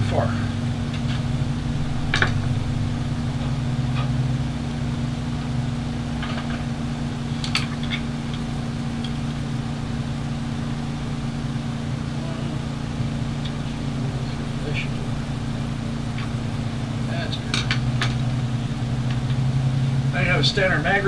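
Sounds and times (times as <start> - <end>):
low engine-like hum: 0.0 - 21.0.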